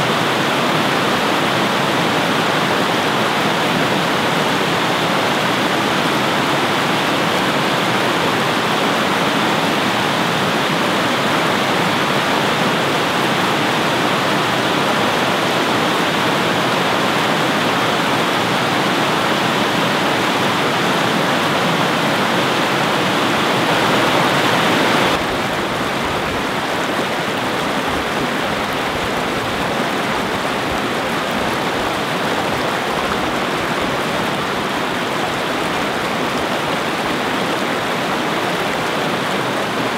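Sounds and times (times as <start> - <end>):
white water rushing over rocks: 0.0 - 39.9.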